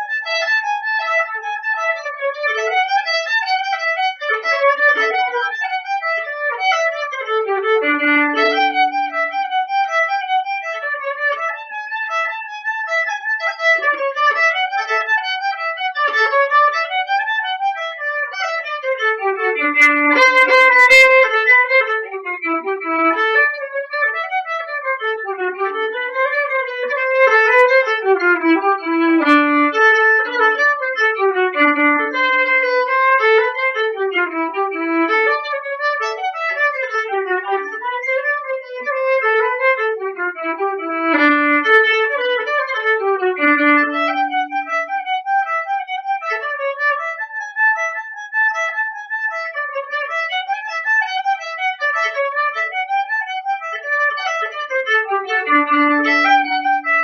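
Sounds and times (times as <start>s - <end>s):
solo violin melody: 0.0s - 57.0s.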